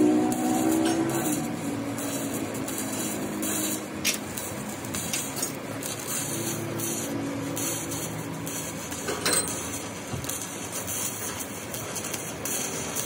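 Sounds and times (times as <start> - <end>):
welding arc crackling hiss: 0.0 - 13.0.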